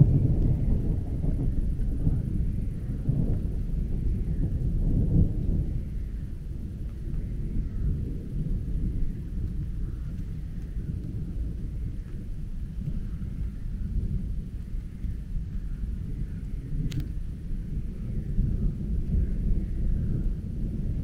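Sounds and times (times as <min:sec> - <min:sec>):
thunder rumbling: 0:00.0 - 0:21.0.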